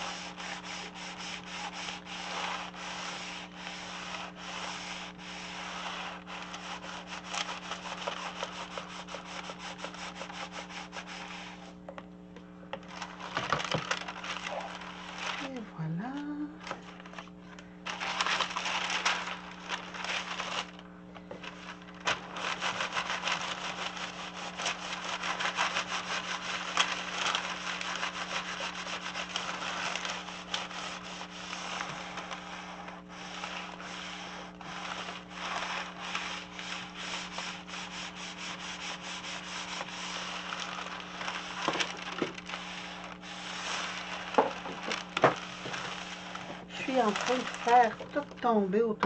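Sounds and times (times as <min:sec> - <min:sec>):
iron scraping over paper: 0:00.0 - 0:11.9, 0:12.7 - 0:49.0
low steady hum: 0:00.0 - 0:49.0.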